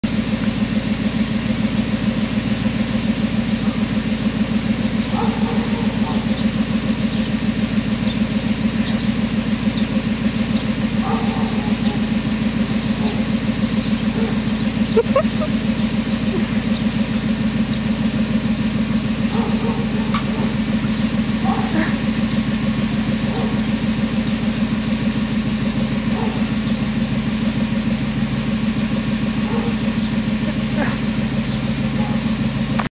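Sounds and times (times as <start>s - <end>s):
engine idling: 0.0s - 32.9s.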